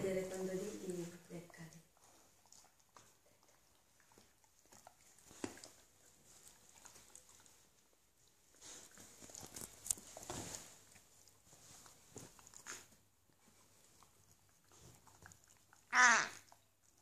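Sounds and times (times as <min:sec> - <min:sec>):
animals licking and mouthing: 0:00.0 - 0:17.0
rustling: 0:02.0 - 0:15.7.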